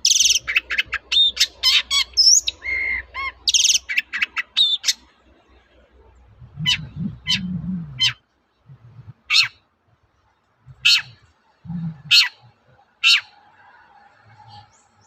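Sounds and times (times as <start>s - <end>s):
harsh bird calls: 0.0s - 15.0s.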